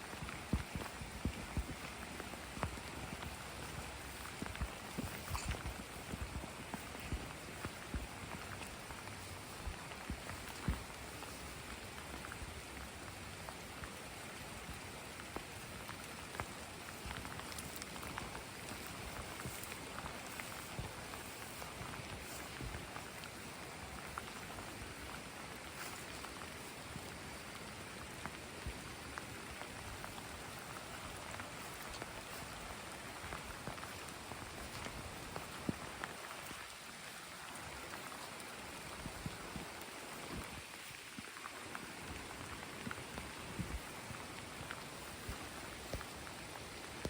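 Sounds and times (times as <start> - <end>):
steady rain falling: 0.0 - 47.0.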